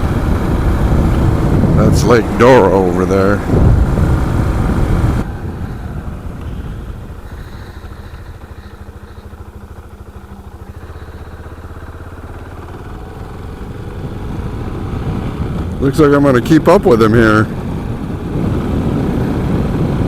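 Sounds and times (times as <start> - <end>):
wind noise: 0.0 - 11.7, 12.9 - 20.0
motorcycle engine pulsing: 0.0 - 20.0.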